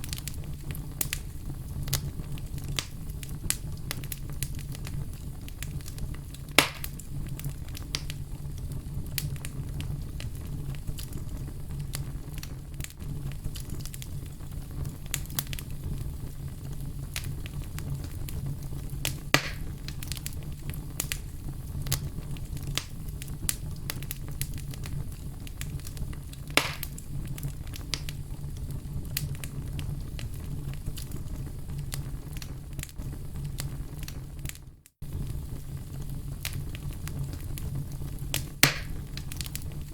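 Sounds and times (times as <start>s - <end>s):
fire crackling: 0.0s - 39.9s
fire low rumble: 0.0s - 39.9s
sharp fire pops: 0.0s - 39.9s.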